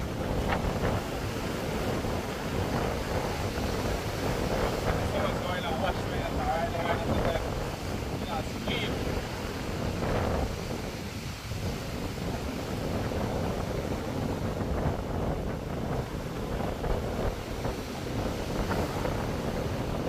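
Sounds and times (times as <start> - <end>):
sea wash: 0.0 - 20.0
wind buffeting microphone: 0.0 - 20.0.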